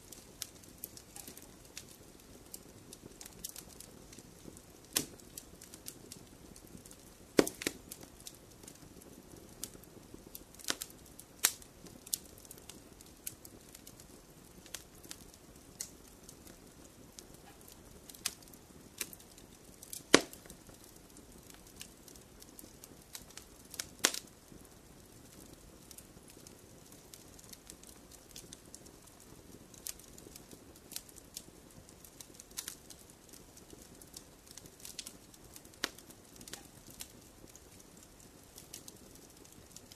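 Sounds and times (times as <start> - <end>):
fire pops: 0.0 - 39.9
logs crackling in fireplace: 0.0 - 39.9
soft fire hiss: 0.0 - 39.9.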